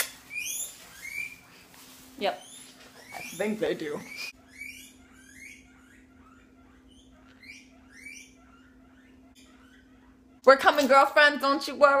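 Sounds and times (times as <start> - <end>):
guinea pigs squealing: 0.0 - 12.0.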